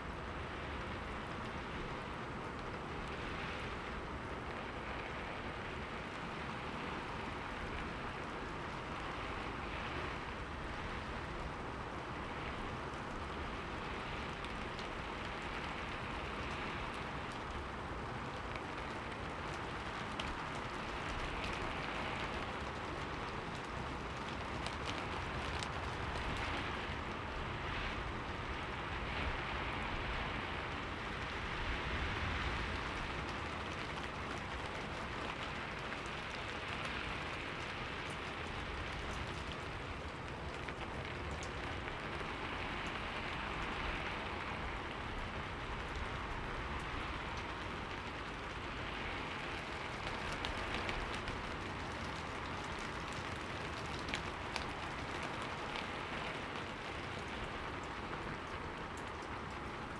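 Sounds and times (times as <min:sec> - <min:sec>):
rain pattering on a window: 0:00.0 - 0:59.9.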